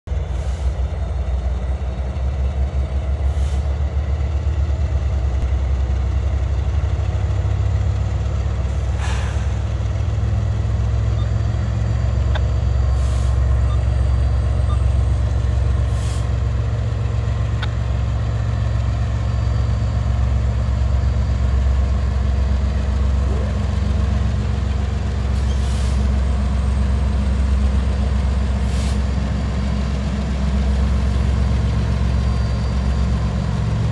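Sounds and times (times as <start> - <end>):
diesel locomotive engines rumbling: 0.0 - 33.9.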